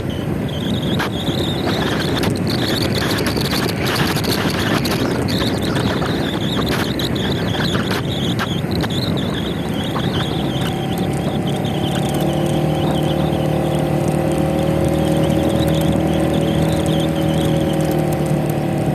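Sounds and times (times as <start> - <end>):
road and wind noise: 0.0 - 18.9
scooter engine: 0.0 - 18.9.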